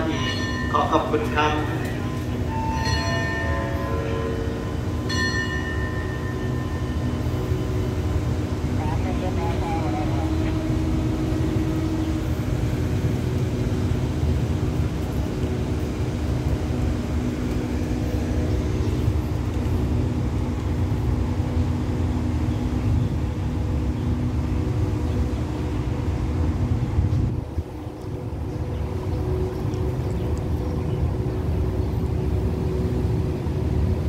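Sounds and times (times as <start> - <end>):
diesel engine hum: 0.0 - 34.0
train rumbling: 0.0 - 34.0.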